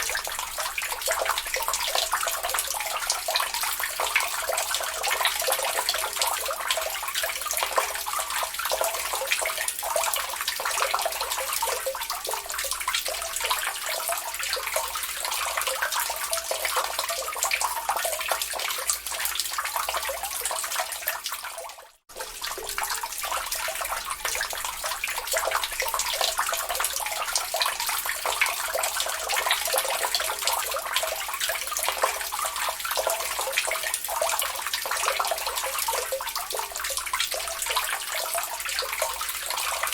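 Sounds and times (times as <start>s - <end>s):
water dripping into a lake: 0.0s - 39.9s.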